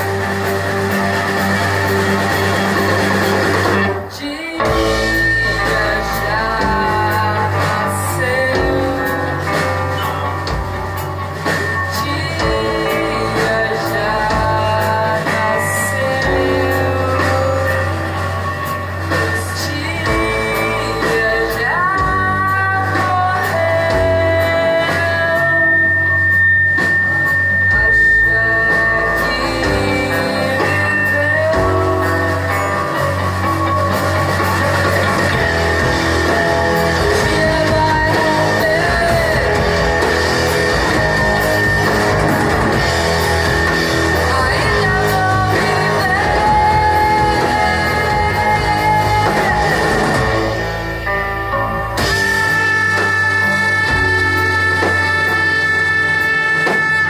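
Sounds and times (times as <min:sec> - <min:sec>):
bass line: 0:00.0 - 0:57.0
live band playing amplified music: 0:00.0 - 0:57.0
person singing: 0:00.0 - 0:57.0.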